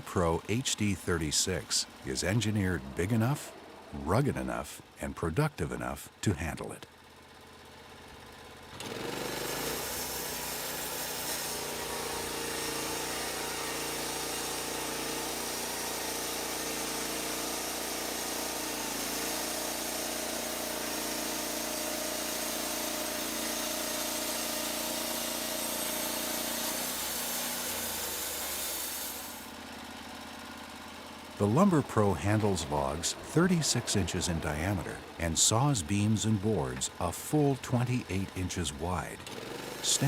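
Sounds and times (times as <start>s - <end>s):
band sawmill cutting log: 0.0s - 5.6s, 8.7s - 40.0s.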